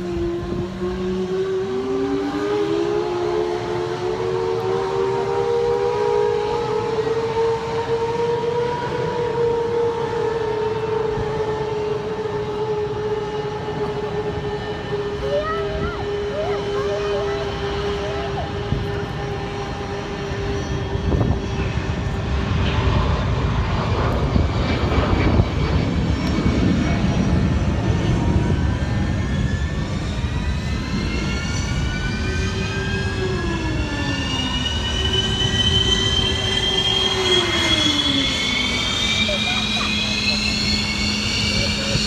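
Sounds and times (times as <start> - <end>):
jet engine turbine whine: 0.0 - 42.0
loud steady rush: 0.0 - 42.0
lower tone dropping in pitch: 0.0 - 42.0.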